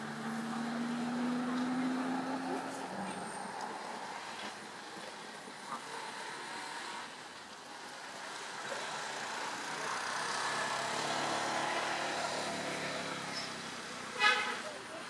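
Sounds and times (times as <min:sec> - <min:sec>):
passing vehicle engine: 0:00.0 - 0:07.3, 0:08.0 - 0:15.0.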